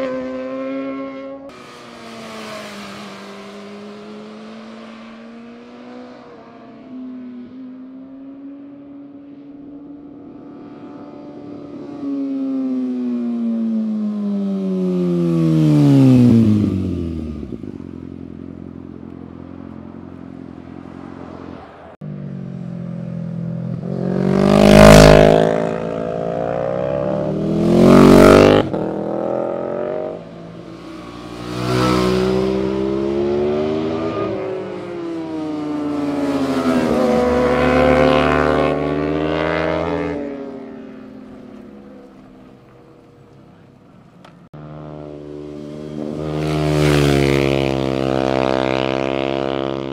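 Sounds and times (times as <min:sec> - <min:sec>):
motorcycles passing by: 0:00.0 - 0:49.9.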